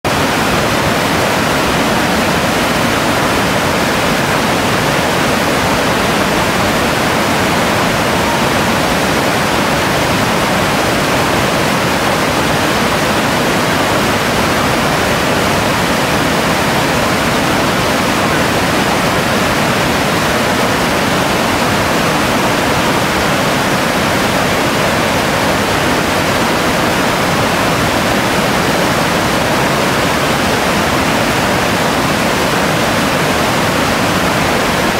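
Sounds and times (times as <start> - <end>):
whitewater rapids rushing: 0.0 - 34.9.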